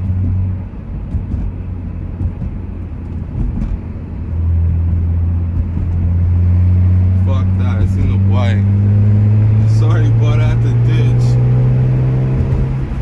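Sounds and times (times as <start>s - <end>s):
car engine and exhaust: 0.0s - 13.0s
road rumble: 0.0s - 13.0s.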